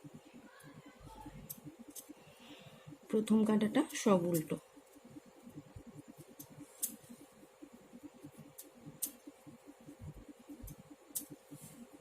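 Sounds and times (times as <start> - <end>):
knitting needles clicking: 0.6 - 11.6.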